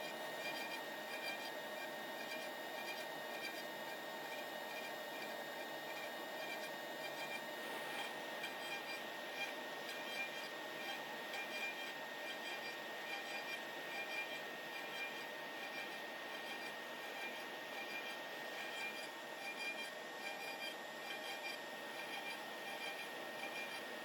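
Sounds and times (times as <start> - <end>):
router spindle whine: 0.0 - 24.0.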